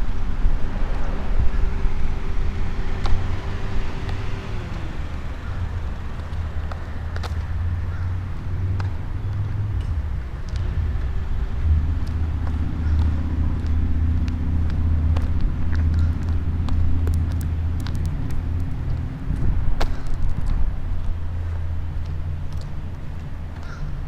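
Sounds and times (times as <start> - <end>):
car running rumble: 0.0 - 24.0
faint engine hum: 0.0 - 24.0.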